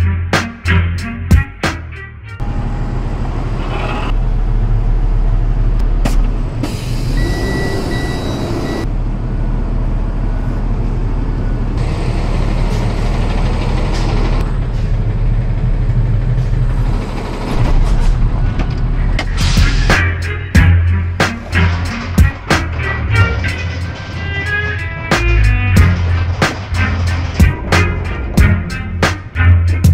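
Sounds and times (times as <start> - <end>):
truck engine and road noise: 0.0 - 29.9.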